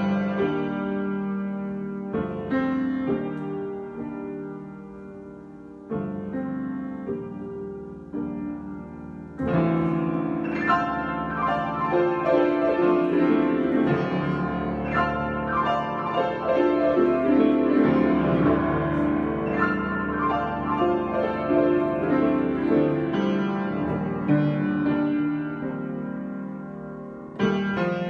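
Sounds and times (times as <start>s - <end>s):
solo piano playing: 0.0s - 28.0s.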